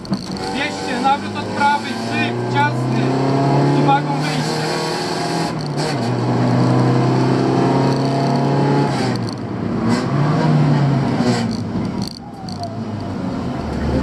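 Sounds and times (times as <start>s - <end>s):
car engine pulling: 0.0s - 14.0s.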